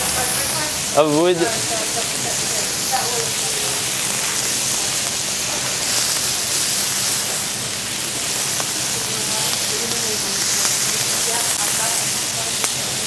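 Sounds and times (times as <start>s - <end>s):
peppers sizzling in oil: 0.0s - 13.0s.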